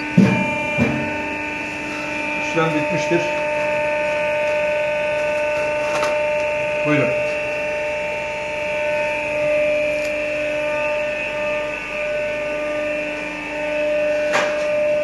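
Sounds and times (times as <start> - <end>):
workshop machinery whine: 0.0 - 15.0.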